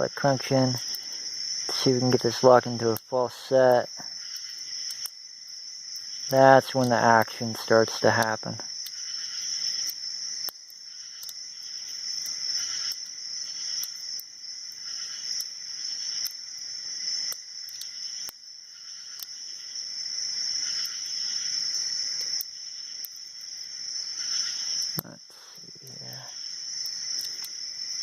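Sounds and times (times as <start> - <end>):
insect trill: 0.0 - 28.0.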